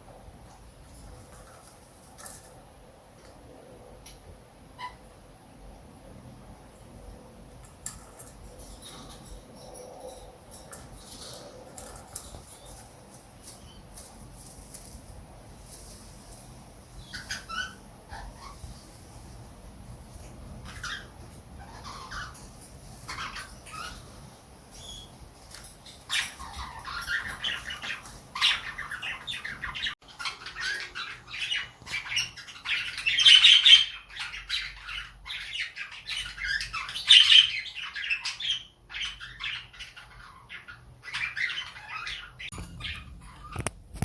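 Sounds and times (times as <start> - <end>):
parrots chirping and squawking: 0.9 - 2.7, 4.0 - 5.2, 6.6 - 43.8.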